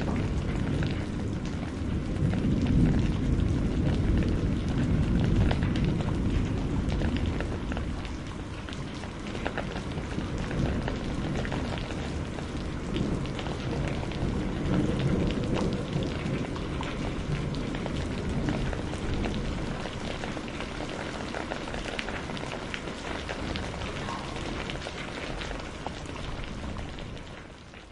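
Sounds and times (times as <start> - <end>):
distant thunder rumbling: 0.0 - 27.5
heavy rain: 0.0 - 27.9.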